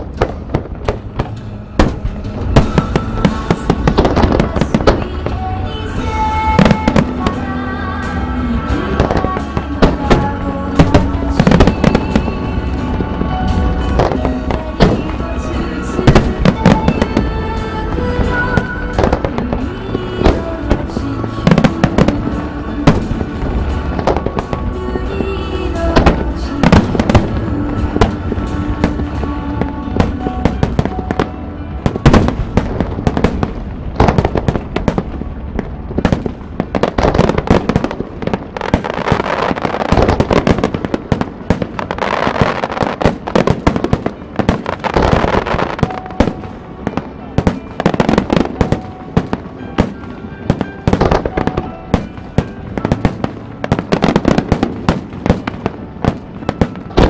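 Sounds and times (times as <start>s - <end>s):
fireworks crackling: 0.0s - 57.0s
music playing: 0.0s - 57.0s.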